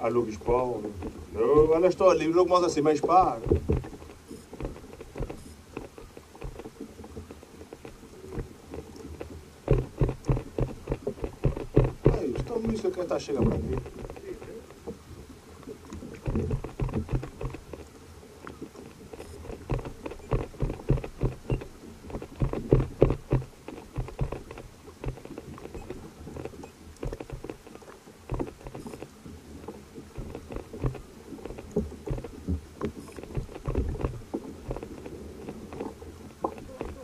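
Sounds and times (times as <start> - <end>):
water sloshing against kayak hull: 0.0 - 37.0.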